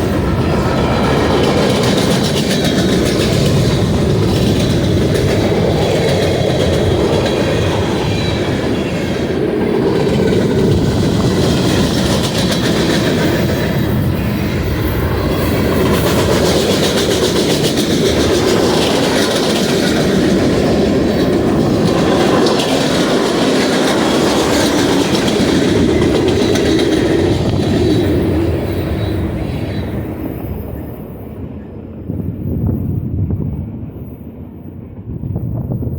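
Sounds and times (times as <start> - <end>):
wheels clicking over rail joints: 0.0 - 30.8
freight train rumbling past: 0.0 - 35.9.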